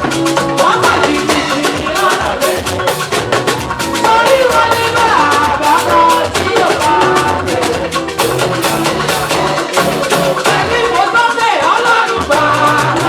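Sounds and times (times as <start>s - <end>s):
drum kit beat: 0.0s - 13.0s
sliding melody line: 0.0s - 13.0s.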